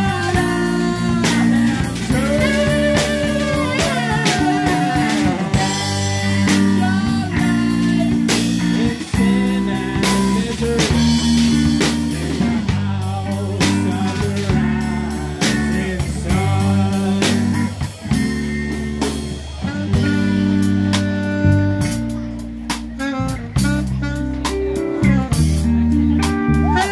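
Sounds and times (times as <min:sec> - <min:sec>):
drum kit beat: 0:00.0 - 0:26.9
electric bass guitar: 0:00.0 - 0:26.9
keyboard: 0:00.0 - 0:26.9
saxophone: 0:00.0 - 0:26.9.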